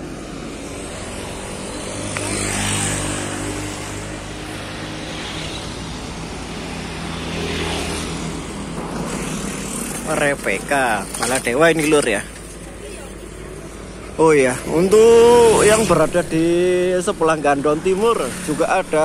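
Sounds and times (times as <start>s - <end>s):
motorcycles passing: 0.0s - 19.0s.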